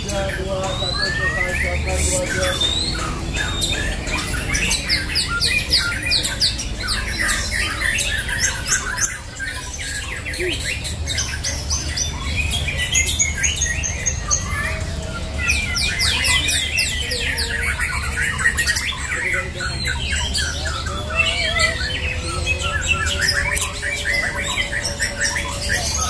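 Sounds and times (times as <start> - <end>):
birds singing whistled notes: 0.0 - 26.0.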